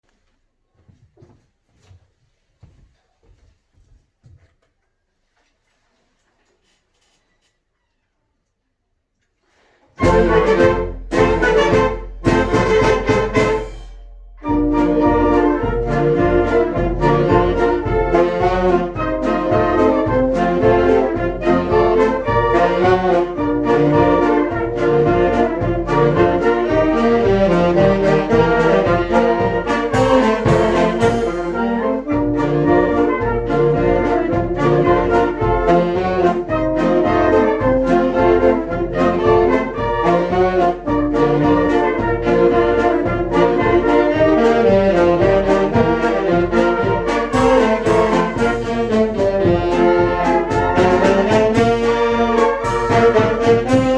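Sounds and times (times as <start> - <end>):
brass band playing: 10.0 - 53.9.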